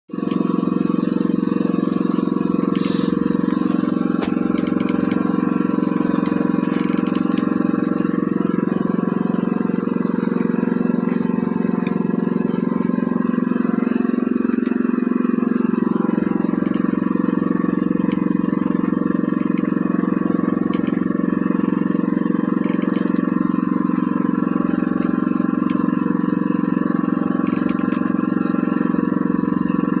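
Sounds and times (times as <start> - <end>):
engine running steadily: 0.1 - 30.0.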